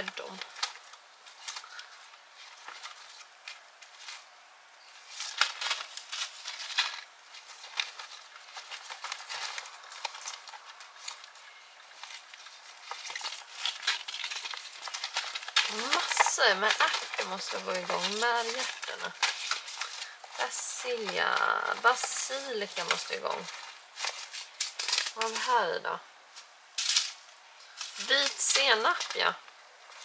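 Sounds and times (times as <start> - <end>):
paper and soil rustling: 0.0 - 30.0.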